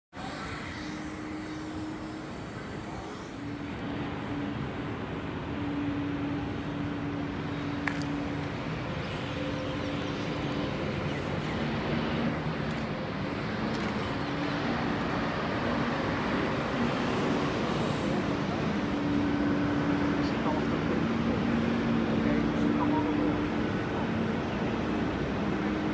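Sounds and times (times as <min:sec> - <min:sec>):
jet engine drone: 0:00.1 - 0:25.9.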